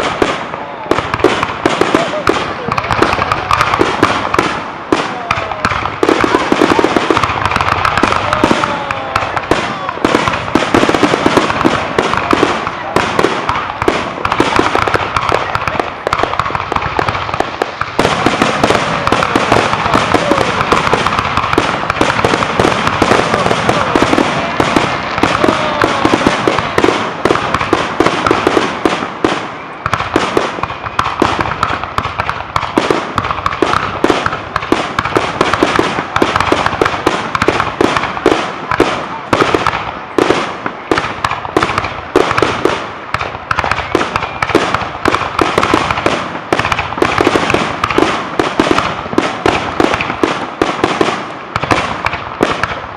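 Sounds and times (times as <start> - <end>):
fireworks bangs and crackling: 0.0 - 52.9
whistling fireworks: 0.0 - 52.9.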